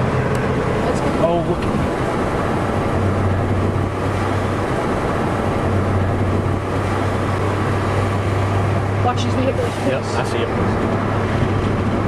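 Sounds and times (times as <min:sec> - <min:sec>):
car engine hum: 0:00.0 - 0:12.0
constant road noise rush: 0:00.0 - 0:12.0.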